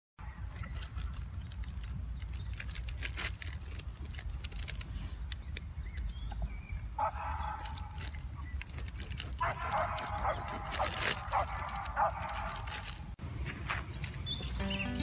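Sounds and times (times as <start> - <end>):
wind rumble on microphone: 0.2 - 14.5.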